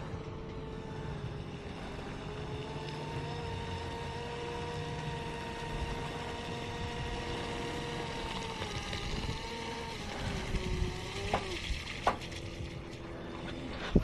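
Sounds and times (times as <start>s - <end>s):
rc boat motor whine: 0.0s - 14.0s.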